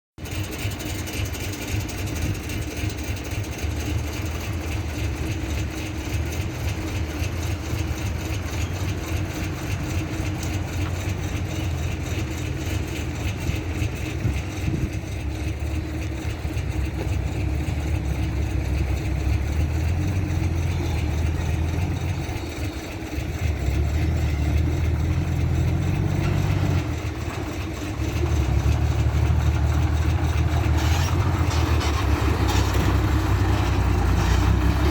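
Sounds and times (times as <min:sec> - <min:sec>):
truck diesel engine droning: 0:00.2 - 0:34.9.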